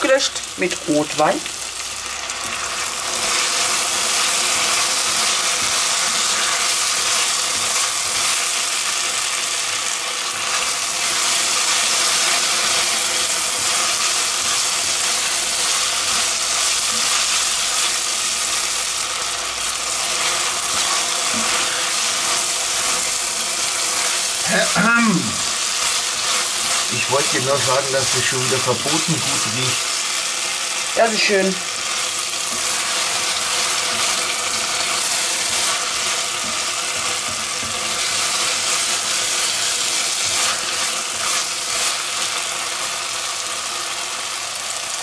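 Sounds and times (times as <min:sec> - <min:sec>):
wine sizzling in a pot: 0:00.0 - 0:45.0.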